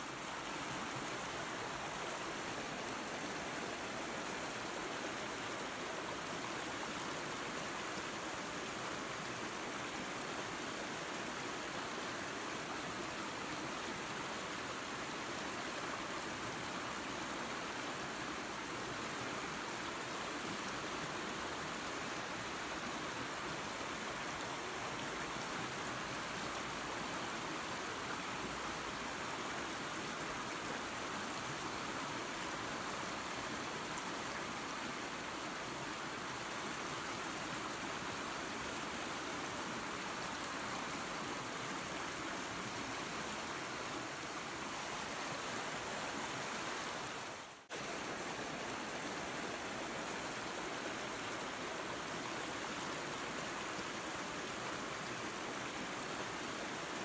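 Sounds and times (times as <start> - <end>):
waterfall and creek rushing: 0.0 - 57.0.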